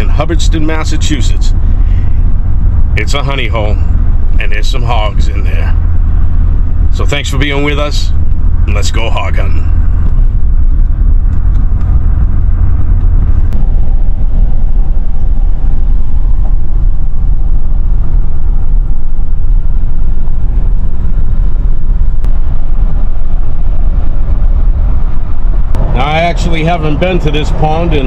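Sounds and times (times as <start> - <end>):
truck cab road and engine rumble: 0.0 - 28.0.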